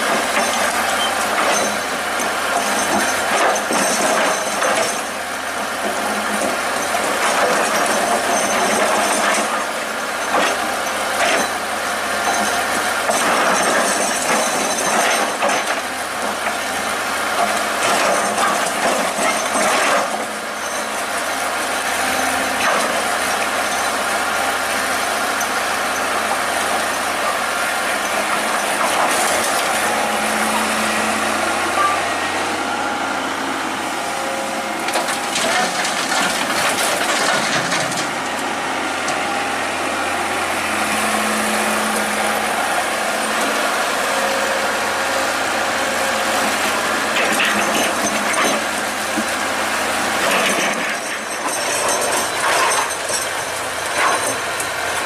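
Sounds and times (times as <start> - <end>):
excavator clatter: 0.0 - 55.0
excavator diesel engine running: 0.0 - 55.0.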